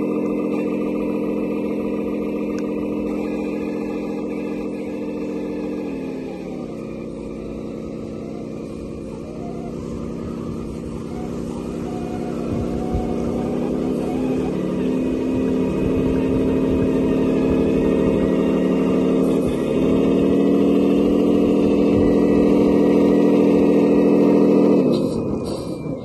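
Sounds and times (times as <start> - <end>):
toy truck engine running: 0.0 - 26.0.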